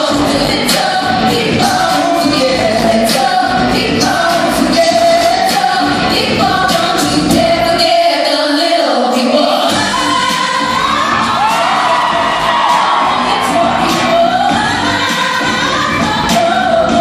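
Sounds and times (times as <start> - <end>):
amplified pop music with beat: 0.0 - 17.0
cast singing together: 0.0 - 17.0.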